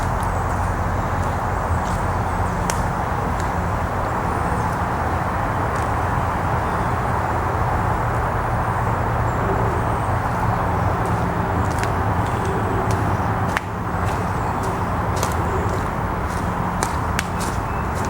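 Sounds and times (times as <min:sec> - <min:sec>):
road traffic roar: 0:00.0 - 0:18.0.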